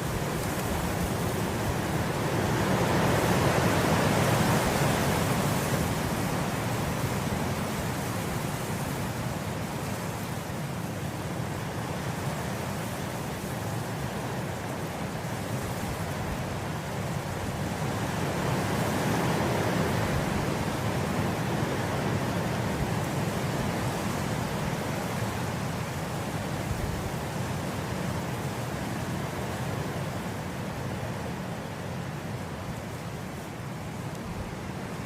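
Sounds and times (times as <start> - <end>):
wind blowing through grass: 0.0 - 35.0.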